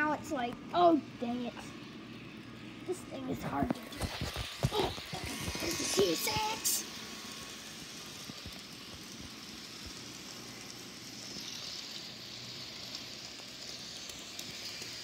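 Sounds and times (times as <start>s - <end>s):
model trains whirring: 0.0s - 15.0s.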